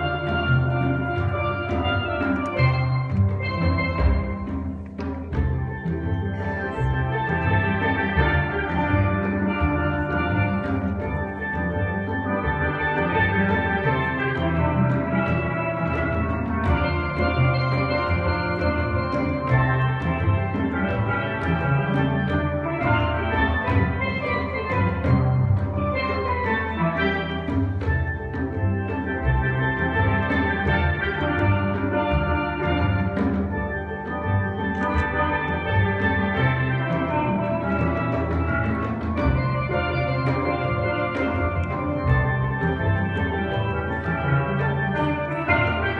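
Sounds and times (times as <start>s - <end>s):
steel band playing: 0.0s - 45.9s.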